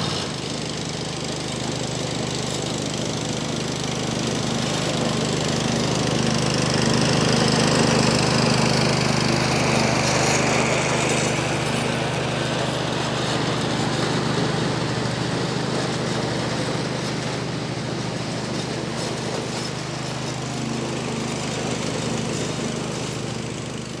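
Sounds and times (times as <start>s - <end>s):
riding lawn mower engine: 0.0s - 24.0s.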